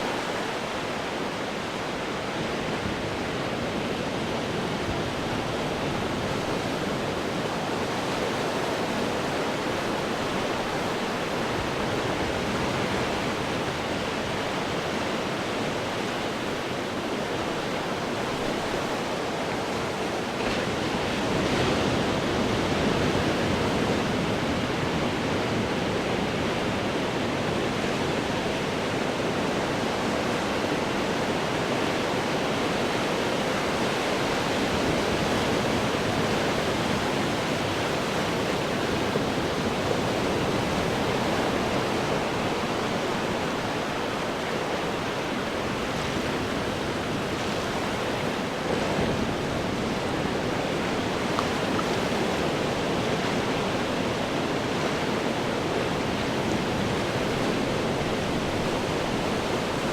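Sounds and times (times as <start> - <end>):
ocean surf breaking on rocks: 0.1 - 59.9.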